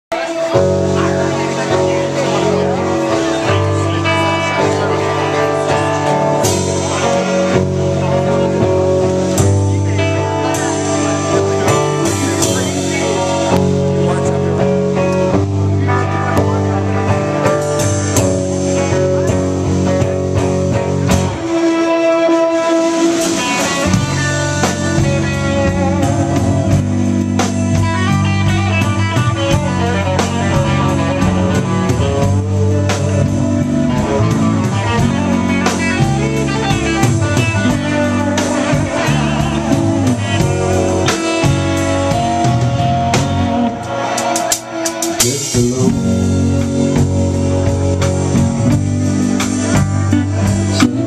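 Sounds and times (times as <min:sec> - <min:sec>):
live rock band playing: 0:00.1 - 0:51.0.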